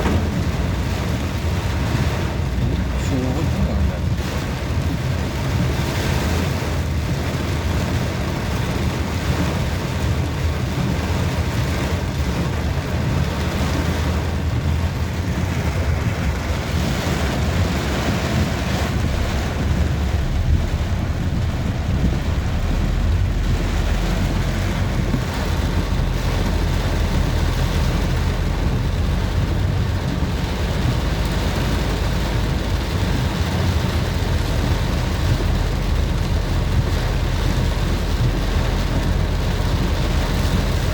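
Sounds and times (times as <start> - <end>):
motorcycle engine and road rumble: 0.0 - 40.9
rain hissing: 0.0 - 40.9.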